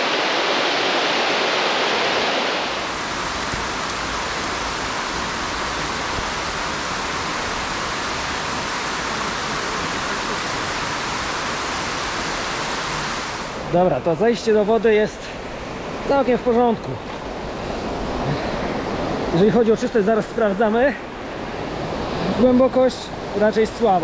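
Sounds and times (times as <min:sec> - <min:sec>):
small waterfall rushing: 0:00.0 - 0:16.8, 0:17.4 - 0:24.0.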